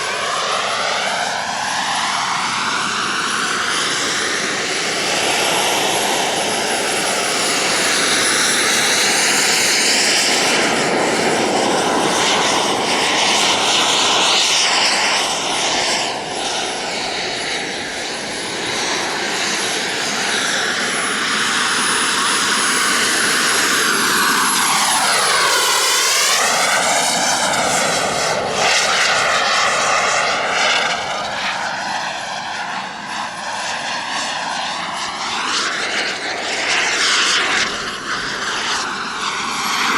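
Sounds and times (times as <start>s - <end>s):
model jet turbine whine: 0.0s - 39.9s.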